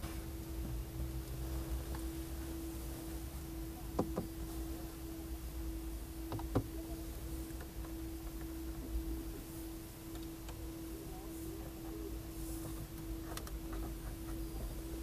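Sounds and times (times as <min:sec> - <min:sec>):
steady hum with constant tone: 0:00.0 - 0:15.0.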